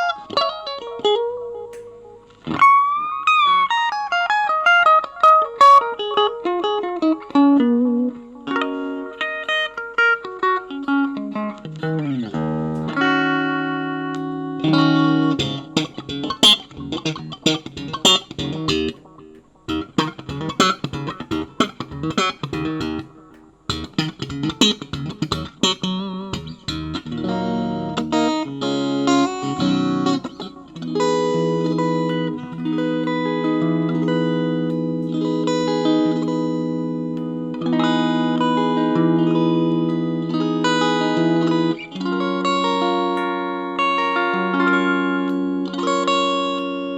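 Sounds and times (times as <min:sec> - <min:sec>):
electric guitar solo: 0:00.0 - 0:46.9.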